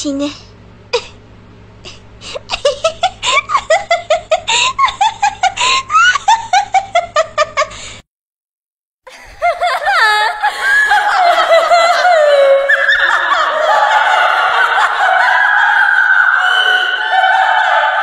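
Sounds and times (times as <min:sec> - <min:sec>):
layered drawn-out laughing voices: 0:01.8 - 0:07.8, 0:09.1 - 0:18.0
high-pitched cackle: 0:01.9 - 0:07.7, 0:09.1 - 0:18.0.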